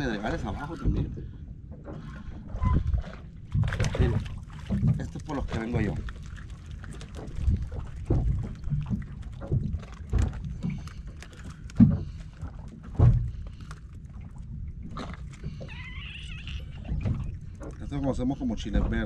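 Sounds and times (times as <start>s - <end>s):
knocks and thumps on boat: 0.0s - 19.0s
water slapping hull: 0.0s - 19.0s.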